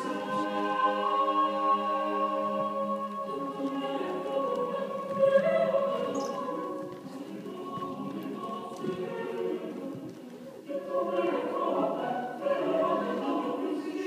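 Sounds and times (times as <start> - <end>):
choir singing sustained notes: 0.0 - 14.0.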